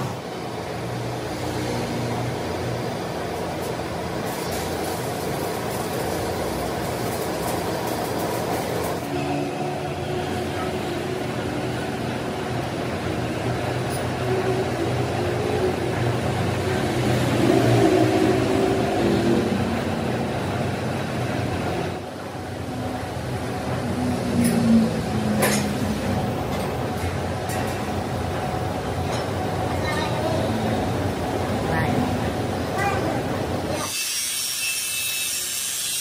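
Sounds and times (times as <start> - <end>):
heavy machinery humming: 0.0 - 33.8.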